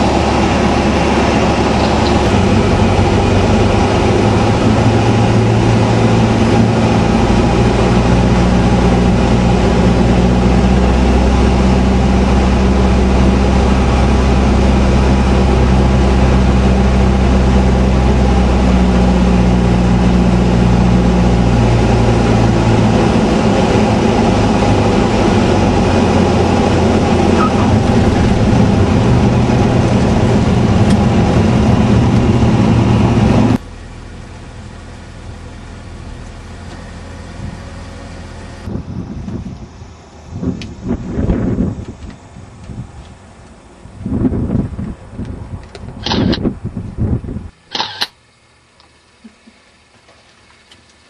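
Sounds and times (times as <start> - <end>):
light aircraft engine drone: 0.0 - 51.0.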